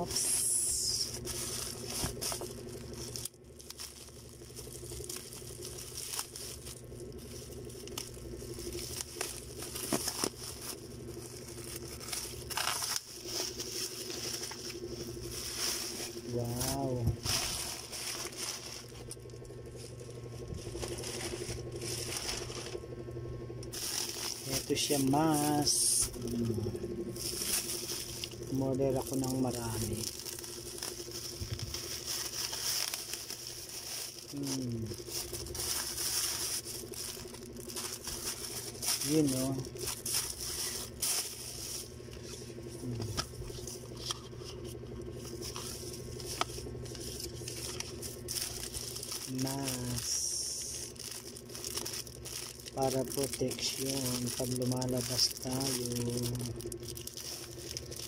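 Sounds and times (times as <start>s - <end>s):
plastic and cardboard rustling: 0.0s - 22.9s, 23.7s - 58.0s
plastic packaging crinkling: 0.0s - 58.0s
steady low hum: 0.0s - 58.0s.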